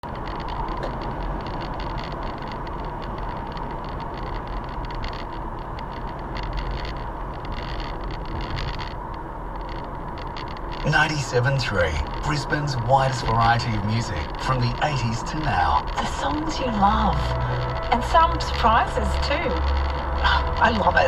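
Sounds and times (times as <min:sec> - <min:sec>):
road rumble in car cabin: 0:00.0 - 0:21.0.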